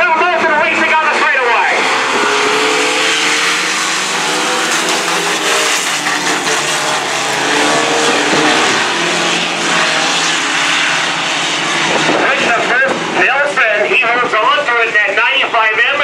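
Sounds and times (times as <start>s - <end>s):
racing truck engines: 0.0s - 16.0s.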